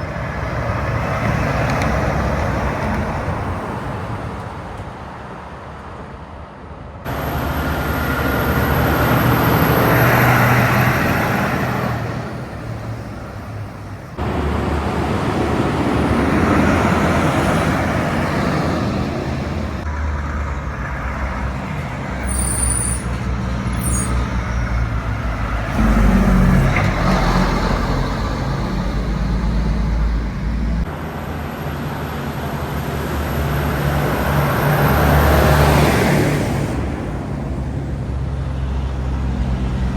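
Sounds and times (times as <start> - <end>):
highway traffic passing: 0.0 - 39.9.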